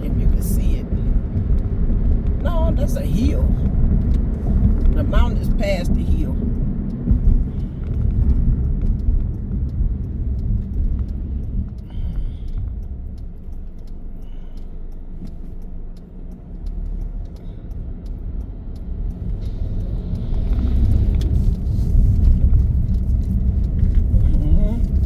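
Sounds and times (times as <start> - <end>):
road rumble: 0.0 - 25.0
wind noise in car: 0.0 - 25.0.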